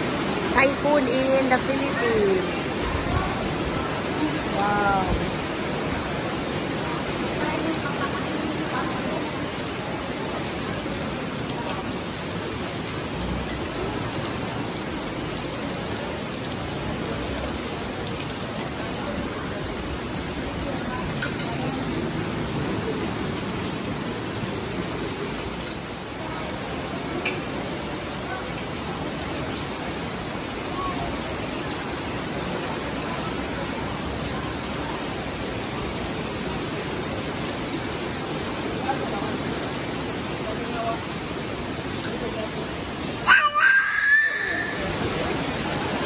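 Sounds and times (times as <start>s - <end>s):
heavy rain on pool and paving: 0.0s - 46.0s.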